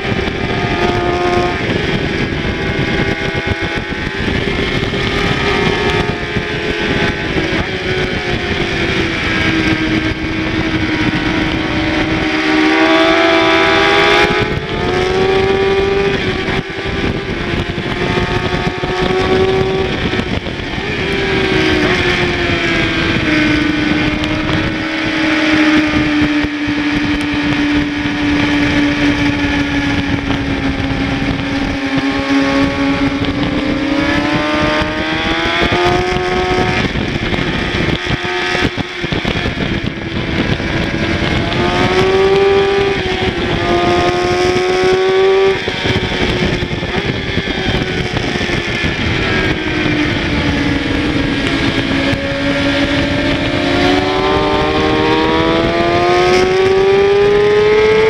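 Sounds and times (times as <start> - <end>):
gear changes: 0.0 - 58.0
motorcycle engine at high revs: 0.0 - 58.0
wind rush on microphone: 0.0 - 58.0.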